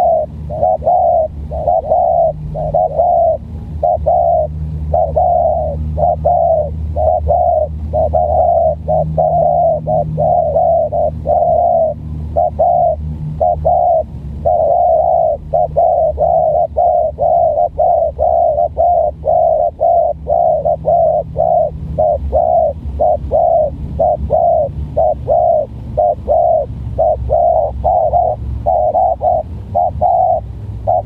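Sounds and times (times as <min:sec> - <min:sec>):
doves cooing: 0:00.0 - 0:31.0.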